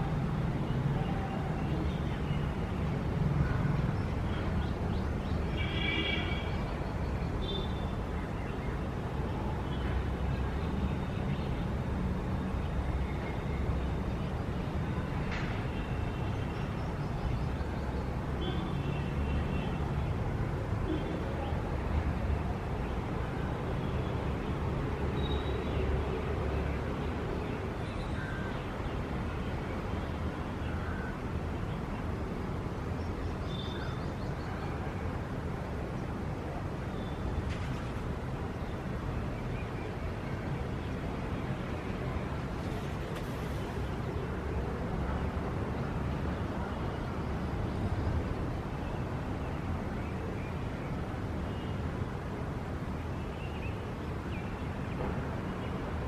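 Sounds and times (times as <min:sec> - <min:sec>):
low rumble of traffic: 0:00.0 - 0:56.0.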